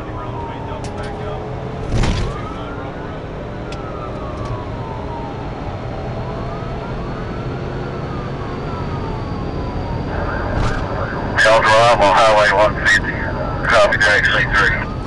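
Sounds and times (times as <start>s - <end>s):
police siren wailing: 0.0s - 15.0s
road noise of speeding car: 0.0s - 15.0s.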